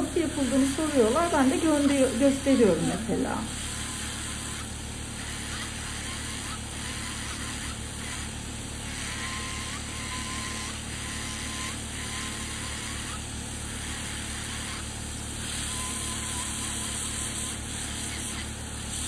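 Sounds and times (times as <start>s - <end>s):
electric nail drill running: 0.0s - 19.0s.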